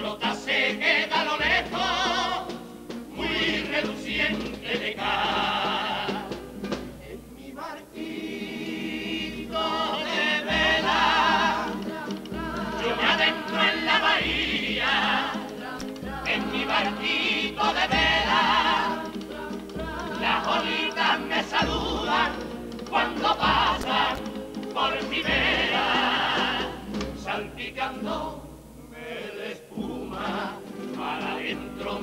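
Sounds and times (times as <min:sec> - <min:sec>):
guitar accompaniment: 0:00.0 - 0:32.0
male chorus singing in harmony: 0:00.0 - 0:32.0.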